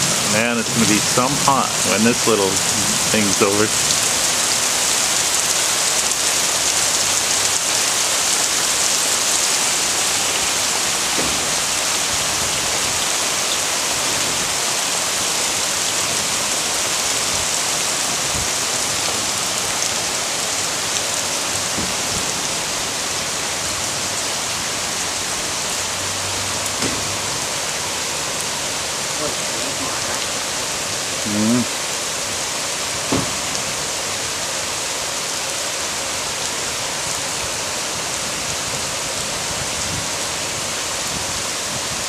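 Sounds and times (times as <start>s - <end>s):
heavy rain falling: 0.0s - 42.0s
water streaming off a roof: 0.0s - 42.0s.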